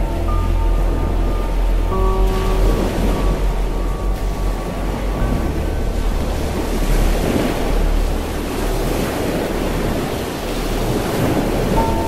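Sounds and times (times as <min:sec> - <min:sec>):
low rumble: 0:00.0 - 0:12.0
sea waves rushing: 0:00.0 - 0:12.0
wind: 0:00.0 - 0:12.0.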